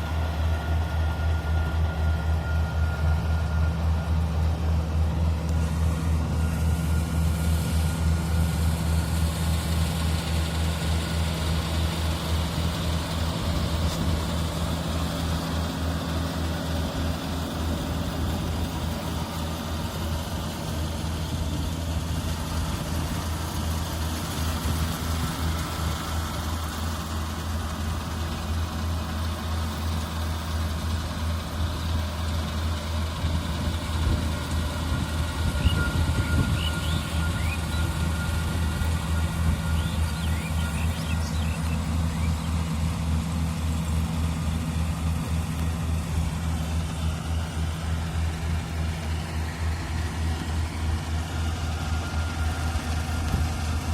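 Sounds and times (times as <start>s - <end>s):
combine harvester engine drone: 0.0s - 53.9s.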